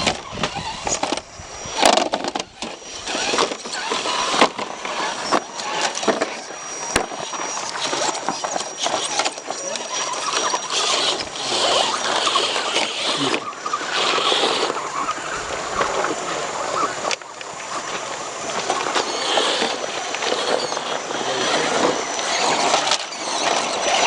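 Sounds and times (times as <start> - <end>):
electric motor and gears whining: 0.0 - 24.0
tyres scraping and crunching on rock: 0.0 - 24.0.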